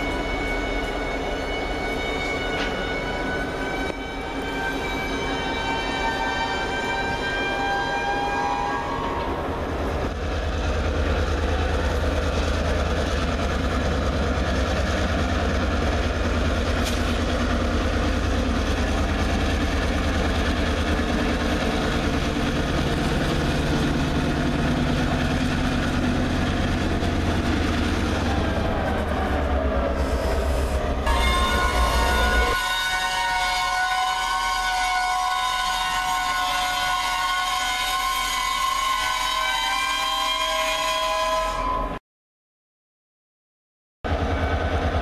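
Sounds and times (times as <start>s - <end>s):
diesel locomotive engine drone: 0.0s - 42.0s, 44.0s - 45.0s.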